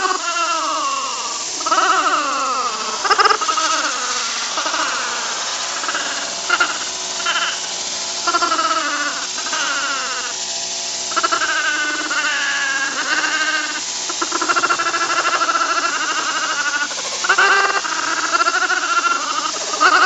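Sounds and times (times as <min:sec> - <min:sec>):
electric blower rushing air: 0:00.0 - 0:20.0.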